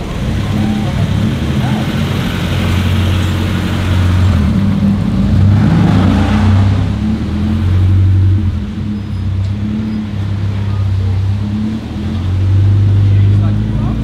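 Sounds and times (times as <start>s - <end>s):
car engine and exhaust at low revs: 0.0s - 14.0s.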